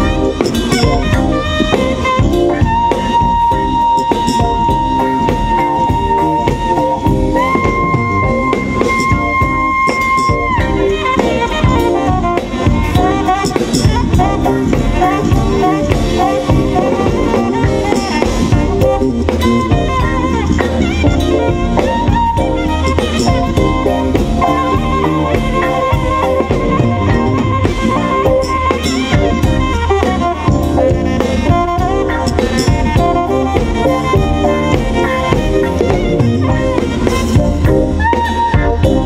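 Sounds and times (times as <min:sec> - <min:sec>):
drum kit: 0:00.0 - 0:39.0
electric bass: 0:00.0 - 0:39.0
saxophone playing: 0:00.0 - 0:39.0.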